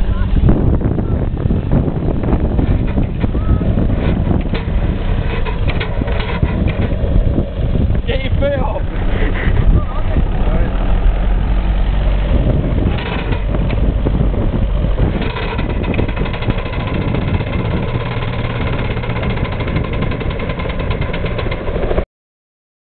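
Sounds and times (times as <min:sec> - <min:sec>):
steam engine running: 0:02.2 - 0:22.0.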